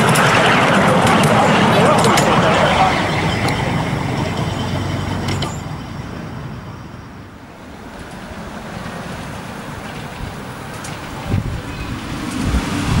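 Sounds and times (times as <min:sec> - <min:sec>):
miniature train rumbling on track: 0:00.0 - 0:13.0.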